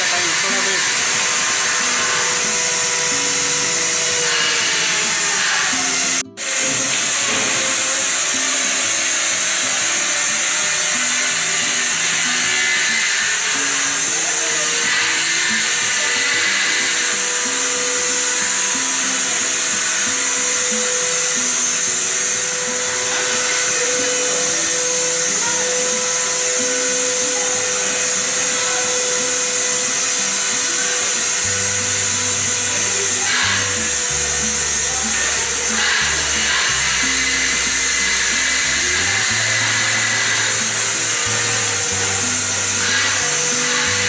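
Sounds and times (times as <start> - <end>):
music with low notes: 0.0 - 44.0
workshop machinery rushing: 0.0 - 44.0.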